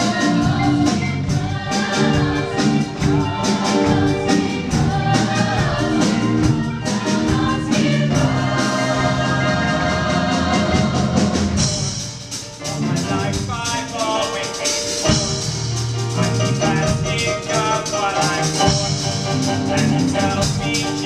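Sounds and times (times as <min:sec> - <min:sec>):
chorus singing with instruments: 0:00.0 - 0:21.0.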